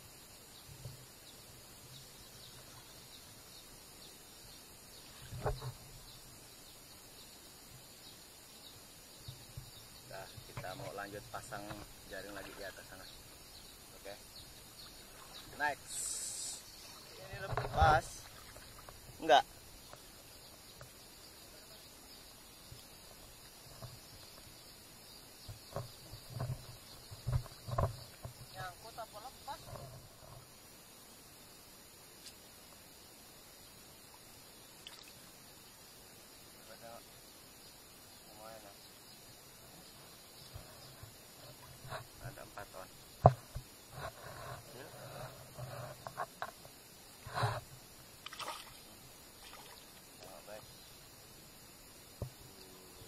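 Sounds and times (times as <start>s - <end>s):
low outdoor background: 0.0s - 53.0s.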